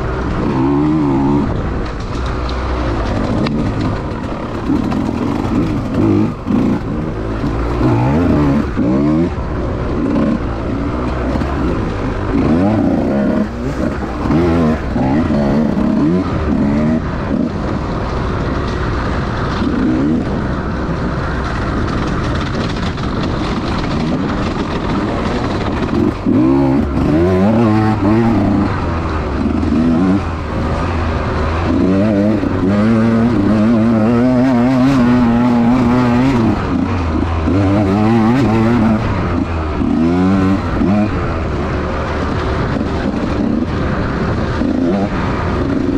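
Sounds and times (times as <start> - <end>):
dirt bike engine revving: 0.0 - 45.9
wind and road noise: 0.0 - 45.9.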